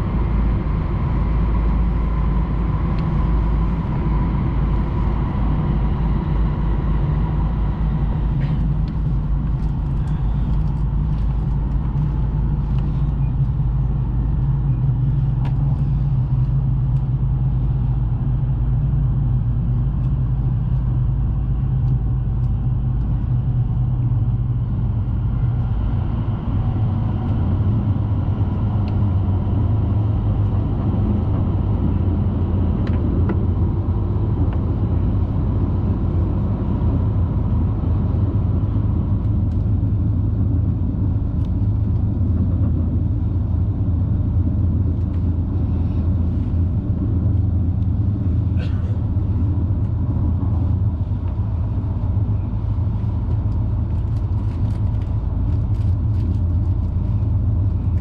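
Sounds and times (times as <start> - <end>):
train cabin rumble and hum: 0.0 - 58.0.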